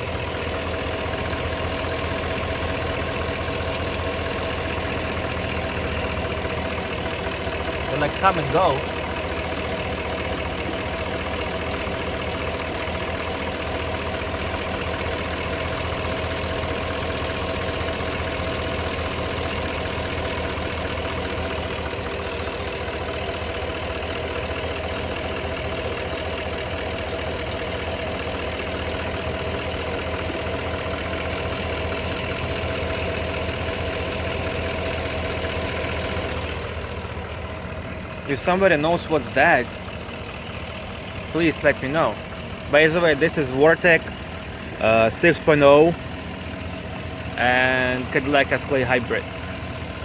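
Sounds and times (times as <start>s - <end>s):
car engine idling: 0.0s - 50.0s
engine ticking: 0.0s - 50.0s.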